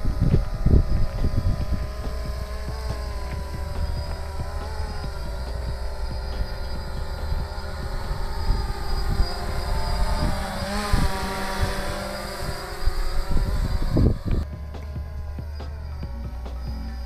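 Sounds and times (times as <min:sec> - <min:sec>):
quadcopter propellers buzzing: 0:00.0 - 0:17.0
wind rumbling on microphone: 0:00.0 - 0:17.0.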